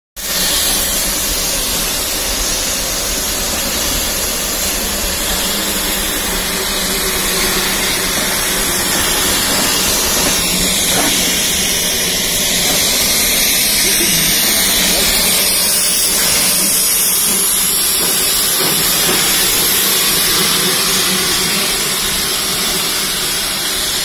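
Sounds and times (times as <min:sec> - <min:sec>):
steam locomotive hissing: 0:00.2 - 0:24.0.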